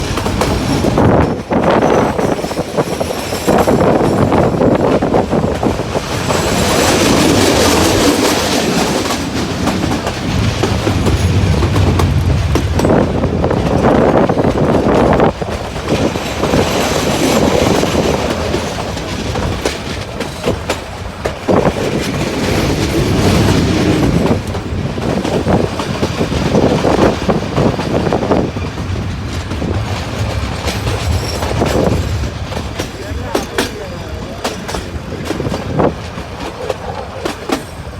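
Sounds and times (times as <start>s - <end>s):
train carriages rattling: 0.0s - 37.9s
wheels clattering over rail joints: 0.0s - 37.9s.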